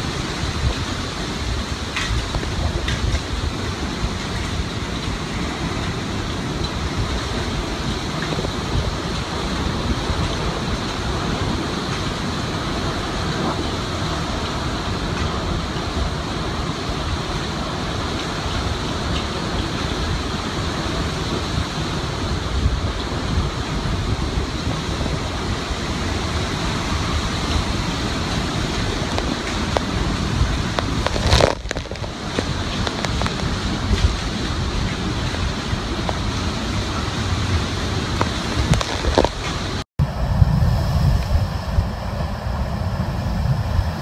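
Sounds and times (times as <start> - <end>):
strong wind and rain: 0.0 - 44.0
wind buffeting microphone: 0.0 - 44.0.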